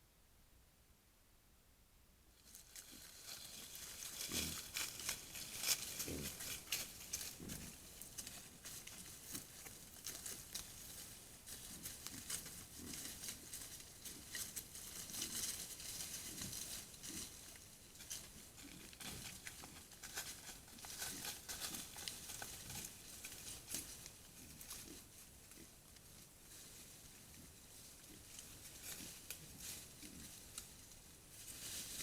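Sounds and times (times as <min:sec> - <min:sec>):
animal rustling in dry leaves: 0:02.4 - 0:32.0.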